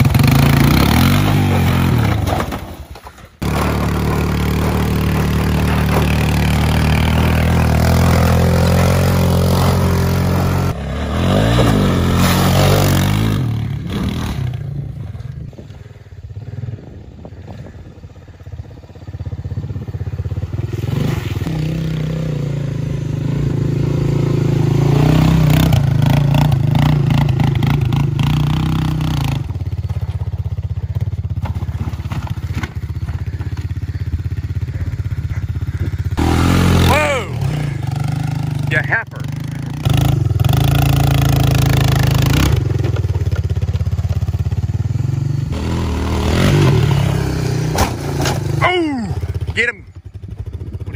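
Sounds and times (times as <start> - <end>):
atv engine revving: 0.0 - 2.6, 3.4 - 50.9.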